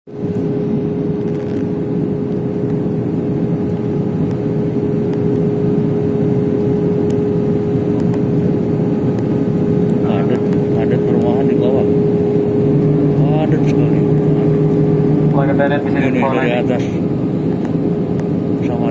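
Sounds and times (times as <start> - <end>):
airliner cabin engine drone: 0.1 - 18.9
constant hum: 0.1 - 18.9.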